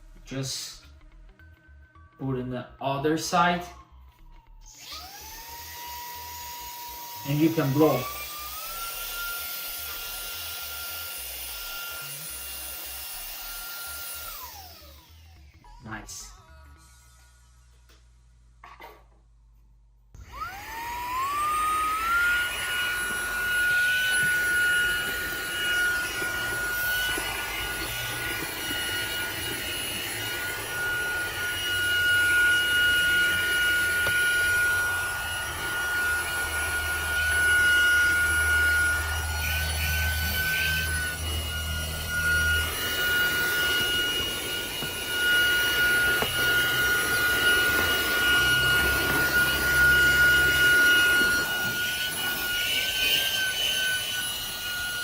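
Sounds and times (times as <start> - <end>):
handheld vacuum motor whine: 3.4 - 18.2, 20.2 - 55.0.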